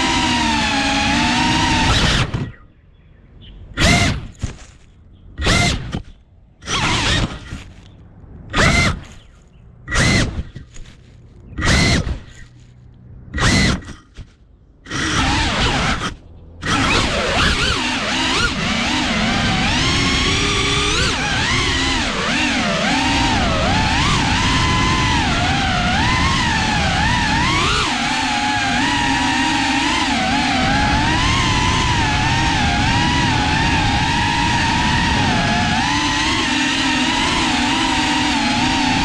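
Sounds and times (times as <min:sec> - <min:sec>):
drone motors whining: 0:00.0 - 0:02.8, 0:03.6 - 0:39.0.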